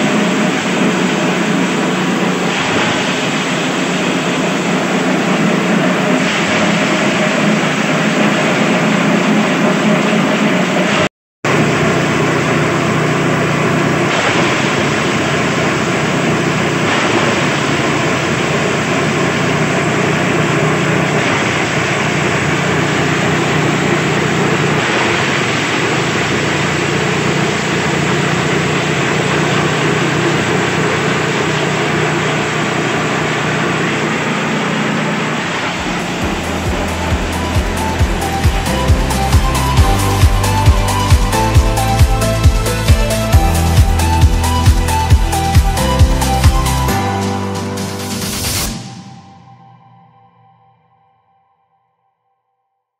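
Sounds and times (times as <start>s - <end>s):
chopper machine shredding grass: 0.0s - 46.9s.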